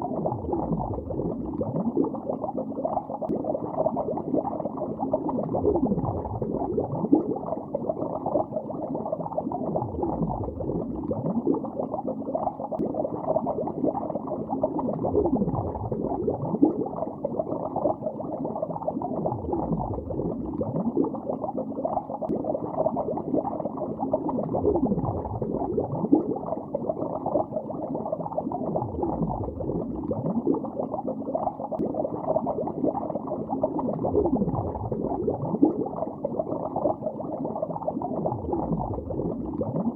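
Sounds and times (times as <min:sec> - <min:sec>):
bubbles gurgling underwater: 0:00.0 - 0:39.9.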